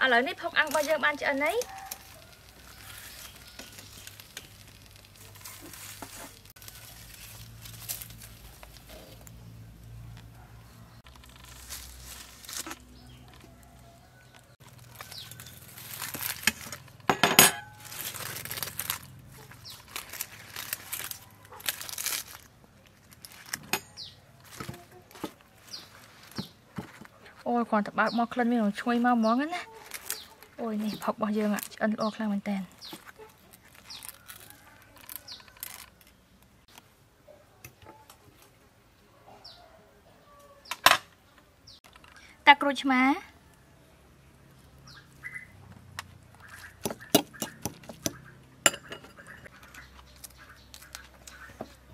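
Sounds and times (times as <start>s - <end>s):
leaves crinkling and rustling: 0.0s - 10.3s, 10.9s - 36.9s, 44.5s - 48.4s, 49.2s - 51.9s.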